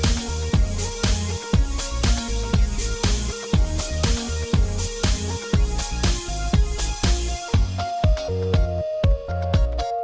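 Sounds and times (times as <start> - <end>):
electronic music with synth: 0.0 - 10.0.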